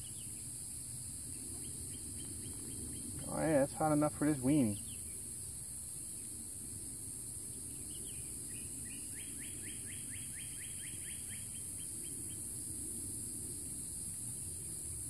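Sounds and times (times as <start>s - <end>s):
insects droning: 0.0s - 15.0s
low outdoor background noise: 0.0s - 15.0s.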